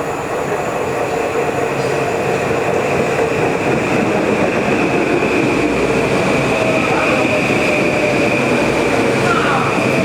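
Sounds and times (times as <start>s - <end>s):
train wheels rushing on rail: 0.0s - 10.0s.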